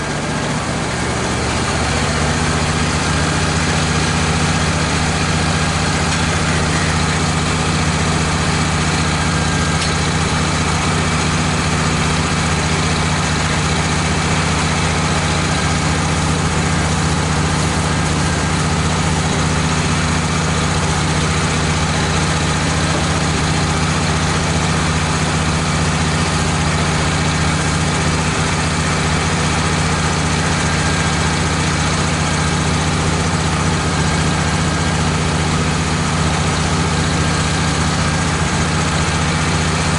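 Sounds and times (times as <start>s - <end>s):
band sawmill engine hum: 0.0s - 39.9s.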